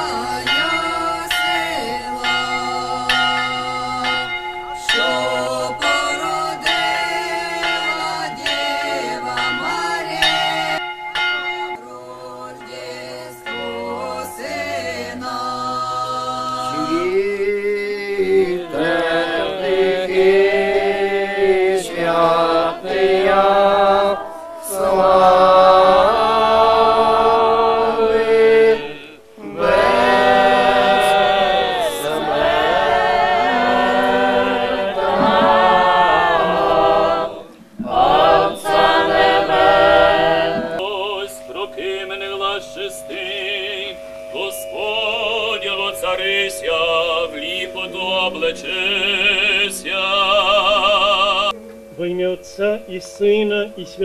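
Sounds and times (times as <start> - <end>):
group singing a cappella chant: 0.0 - 10.8, 11.8 - 51.6.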